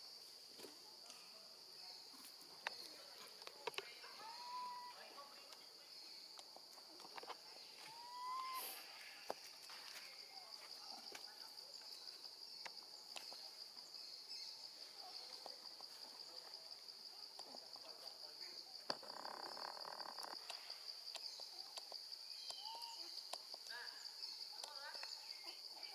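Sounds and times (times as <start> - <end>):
insects chirring: 0.0 - 25.9.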